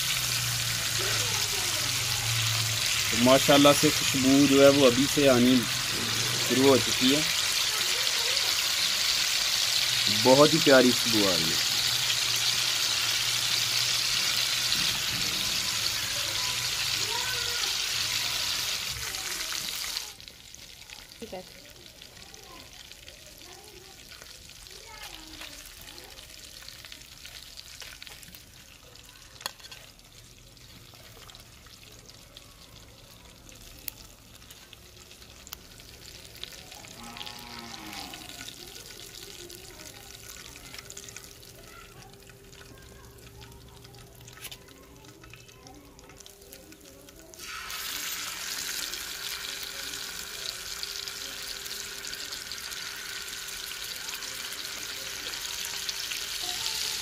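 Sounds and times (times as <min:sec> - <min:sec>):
fish sizzling in hot oil: 0:00.0 - 0:57.0.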